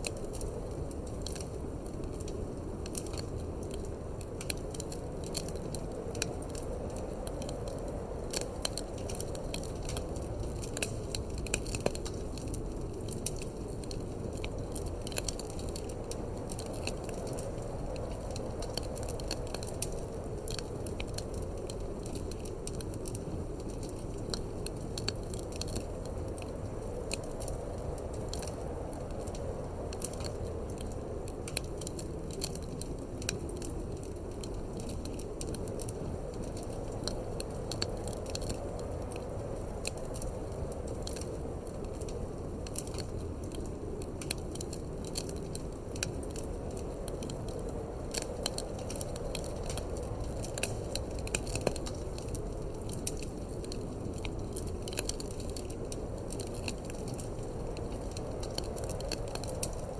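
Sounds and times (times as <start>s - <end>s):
low rush of wind: 0.0s - 59.9s
wood fire crackling and popping: 0.0s - 59.9s.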